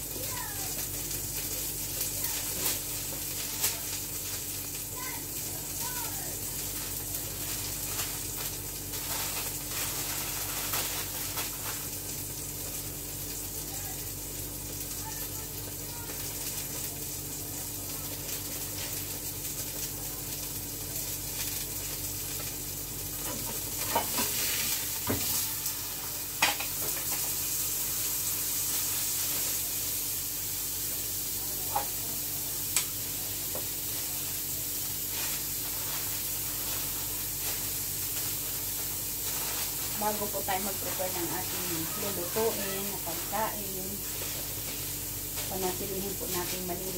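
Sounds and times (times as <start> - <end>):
sizzling hiss: 0.0 - 46.9
plastic wrap crinkling: 0.2 - 30.2, 30.8 - 46.9.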